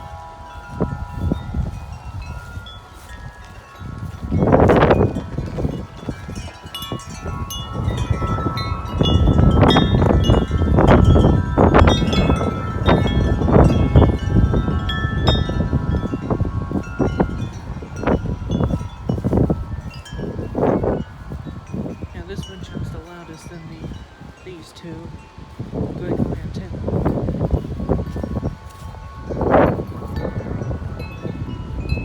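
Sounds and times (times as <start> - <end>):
metal wind chimes ringing: 0.0 - 32.0
wind buffeting microphone: 0.0 - 32.0.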